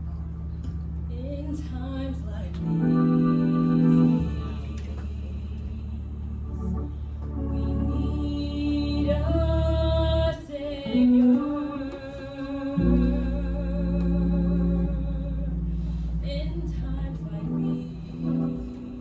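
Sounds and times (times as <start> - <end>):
organ sustained chords: 0.0 - 19.0
person singing with vibrato: 1.4 - 19.0.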